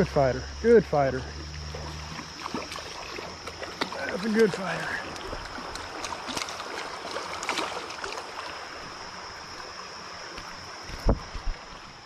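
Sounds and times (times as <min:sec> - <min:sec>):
creek water rushing: 0:00.0 - 0:12.0
water splashing: 0:00.0 - 0:12.0.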